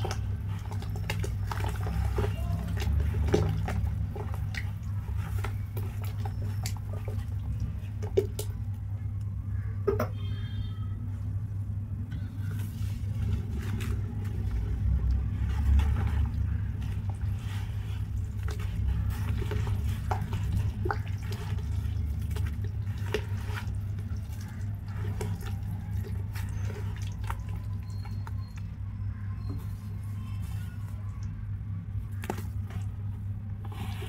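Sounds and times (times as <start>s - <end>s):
hand sloshing through wet slurry: 0.0s - 9.0s, 12.4s - 34.0s
steady low hum: 0.0s - 34.0s.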